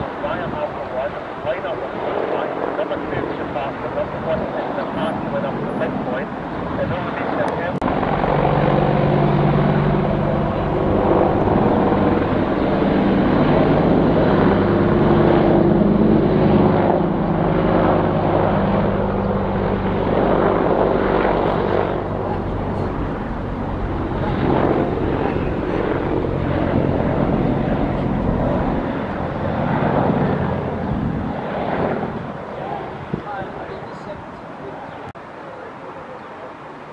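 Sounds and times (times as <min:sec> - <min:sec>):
helicopter rotors and engines: 0:00.0 - 0:36.9.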